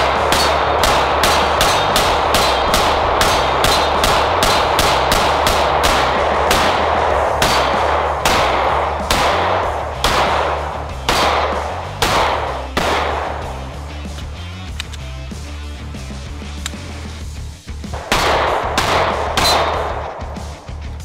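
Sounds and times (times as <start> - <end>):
pistol shots: 0.0 - 14.2, 17.9 - 20.8.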